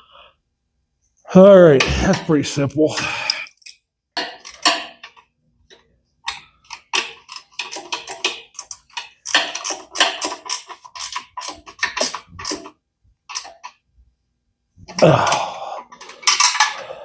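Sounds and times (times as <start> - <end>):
hand tools and metal parts clattering: 1.7 - 13.8, 15.0 - 17.0.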